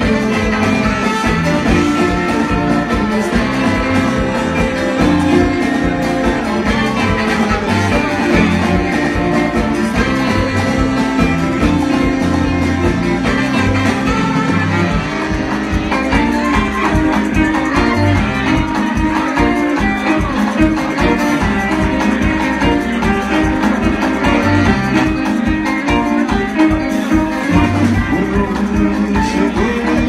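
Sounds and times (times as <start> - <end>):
live band playing: 0.0 - 30.0
saxophones: 0.0 - 30.0.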